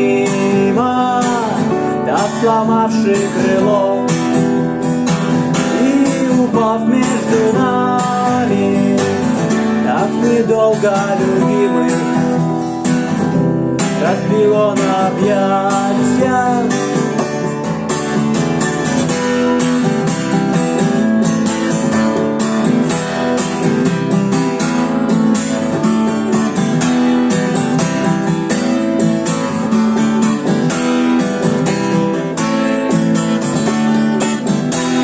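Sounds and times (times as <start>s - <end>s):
strummed guitar: 0.0s - 35.0s.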